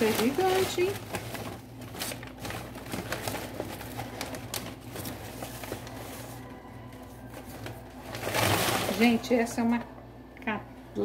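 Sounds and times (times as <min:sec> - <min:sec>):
paper crinkling and rustling: 0:00.0 - 0:09.3.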